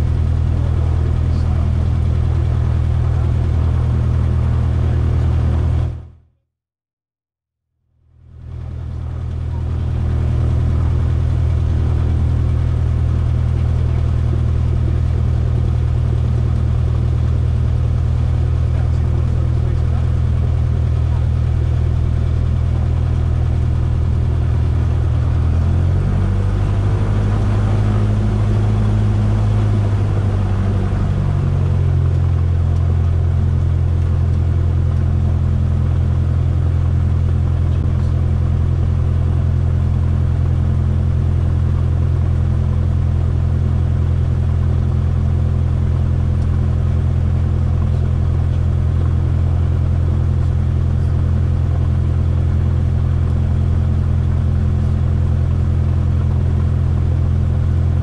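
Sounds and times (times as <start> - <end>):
propeller aircraft engine idling: 0.0 - 6.1, 8.1 - 58.0.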